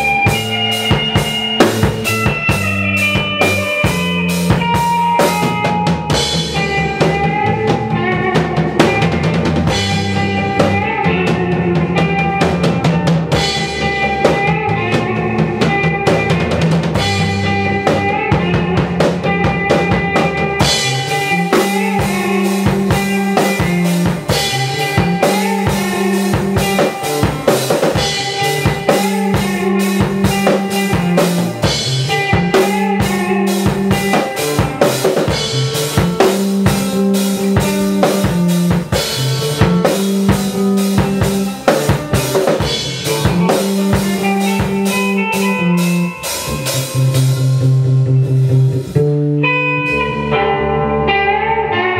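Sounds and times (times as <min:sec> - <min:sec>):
rock music with drums: 0:00.0 - 0:51.9.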